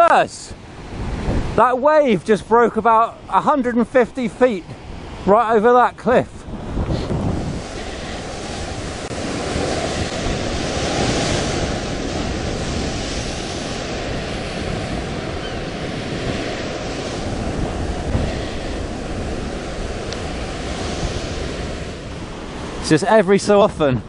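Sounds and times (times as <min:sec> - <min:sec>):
waves breaking over rocks: 0:00.0 - 0:23.9
wind blowing across microphone: 0:00.0 - 0:24.0.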